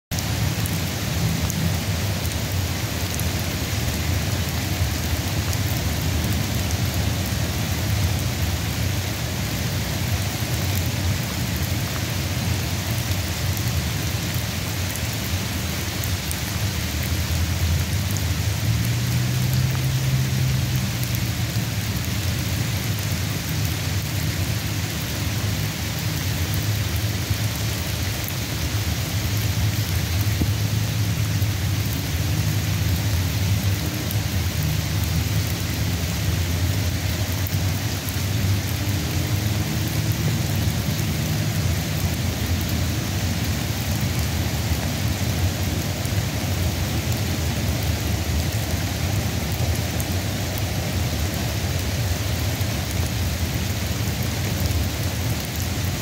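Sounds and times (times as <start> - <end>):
rain hissing: 0.1 - 56.0.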